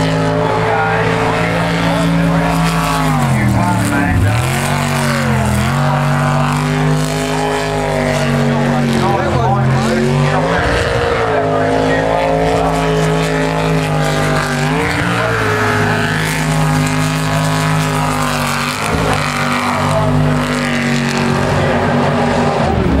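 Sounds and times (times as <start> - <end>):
boat engine revving hard: 0.0 - 23.0.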